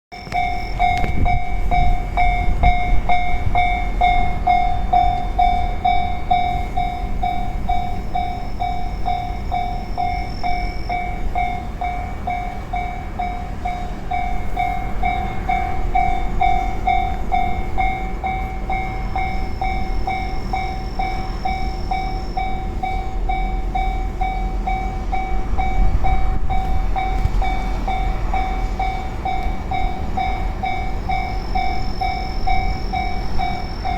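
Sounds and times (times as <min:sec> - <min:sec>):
level crossing warning bell ringing: 0:00.1 - 0:33.9
train rumbling past: 0:00.1 - 0:33.9.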